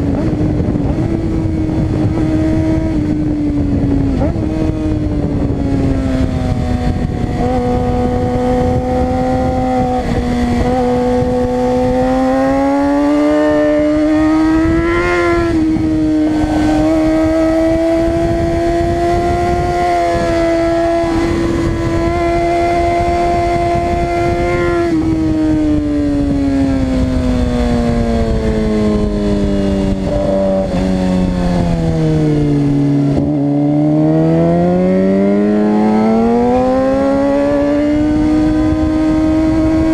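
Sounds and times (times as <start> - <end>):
steady rushing noise: 0.0 - 33.7
motorcycle engine at high revs: 0.0 - 39.9.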